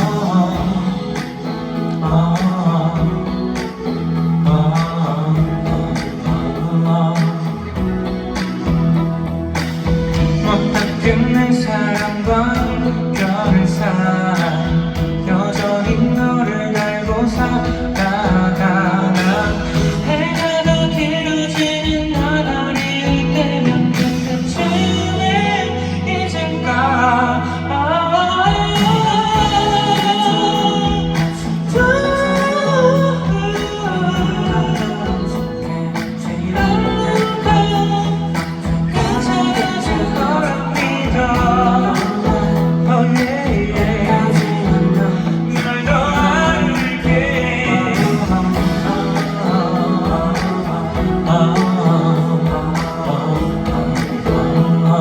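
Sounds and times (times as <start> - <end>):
steady drum beat: 0.0 - 25.0, 28.5 - 55.0
live pop band: 0.0 - 55.0
man singing lead vocal: 0.0 - 55.0.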